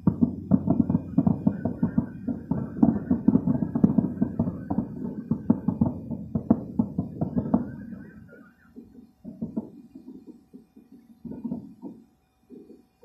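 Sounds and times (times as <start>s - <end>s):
fireworks shell bursts: 0.0s - 12.7s.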